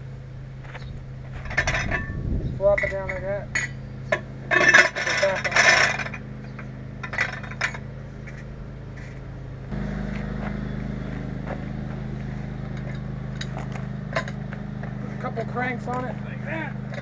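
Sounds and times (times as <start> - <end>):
low mechanical hum: 0.0 - 17.0
metal clanking: 0.7 - 17.0.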